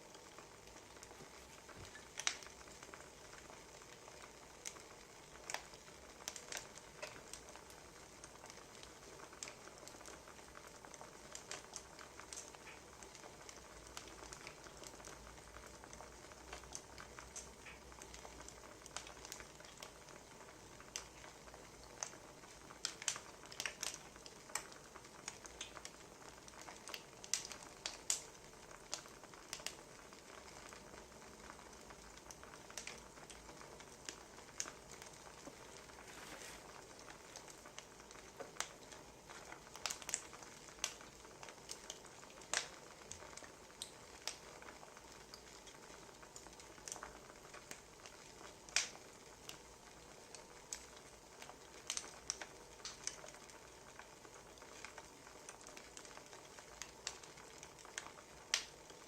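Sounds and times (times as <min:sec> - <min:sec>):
wood fire crackling: 0:00.0 - 0:59.0
sharp pops and snaps: 0:00.1 - 0:59.0.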